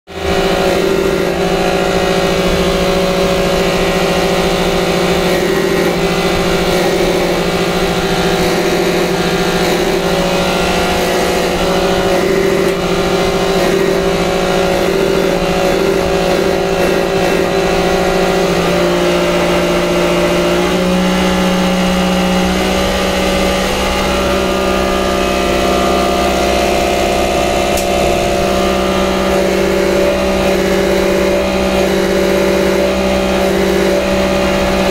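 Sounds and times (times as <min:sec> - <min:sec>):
pump test bench mechanical hum: 0:00.1 - 0:34.9.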